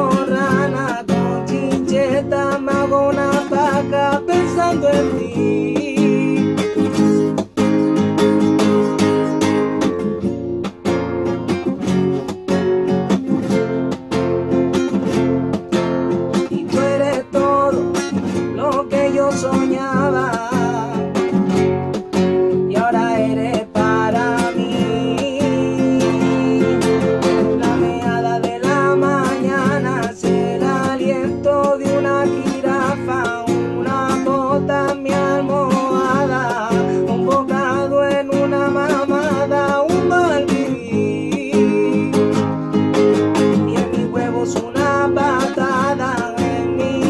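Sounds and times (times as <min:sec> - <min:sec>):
man singing: 0:00.0 - 0:10.3, 0:10.9 - 0:47.0
acoustic guitar strumming: 0:00.0 - 0:47.0.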